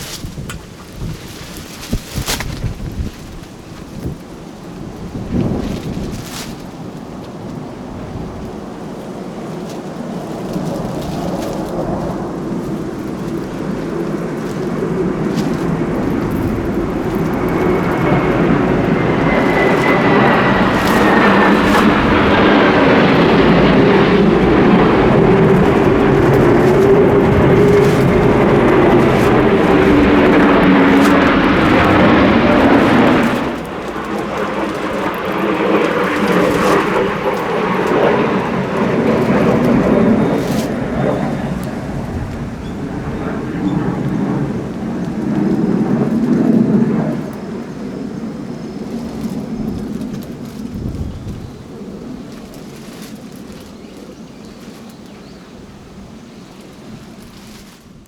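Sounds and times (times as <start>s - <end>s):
jet aircraft roaring overhead: 0.0s - 58.0s
jet engine whine: 0.0s - 58.0s.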